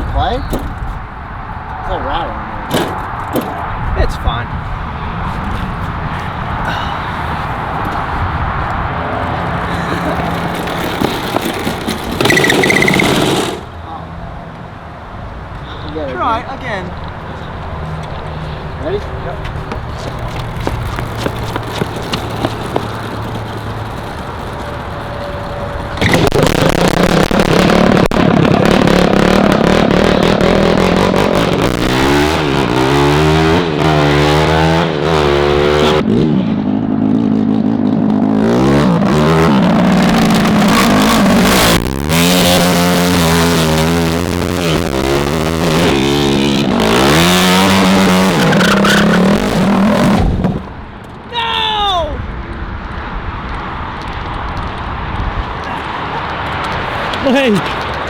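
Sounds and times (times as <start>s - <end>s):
kart engine revving: 0.0s - 0.9s, 1.7s - 14.8s, 16.0s - 51.0s.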